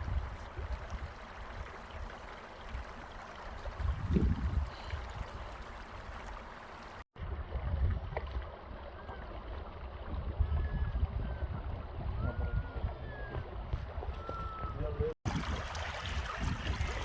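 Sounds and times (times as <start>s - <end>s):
wind buffeting microphone: 0.0s - 2.9s, 3.5s - 6.3s, 7.2s - 17.0s.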